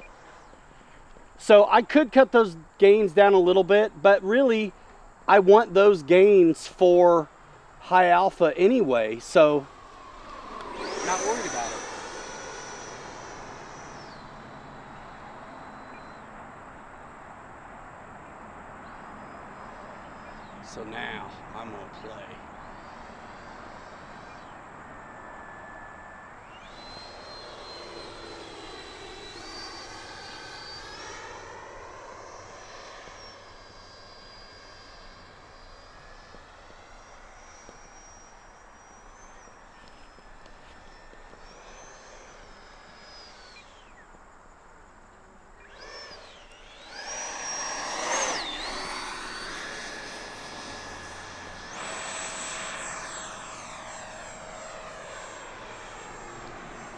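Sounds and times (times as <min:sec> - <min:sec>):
model jet fan whine: 0:00.0 - 0:56.9.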